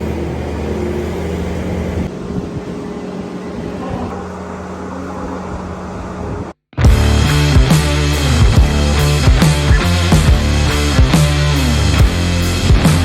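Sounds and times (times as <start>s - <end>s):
farm machinery engine running: 0.0s - 13.0s.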